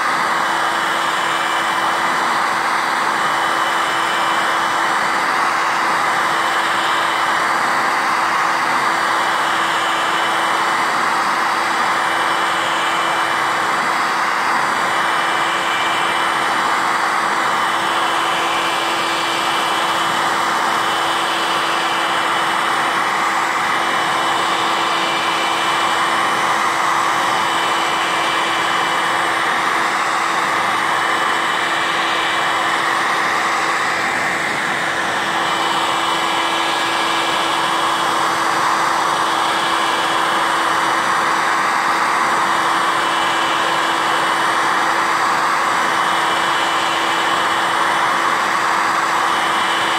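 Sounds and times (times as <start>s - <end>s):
heat gun fan humming: 0.0s - 49.9s.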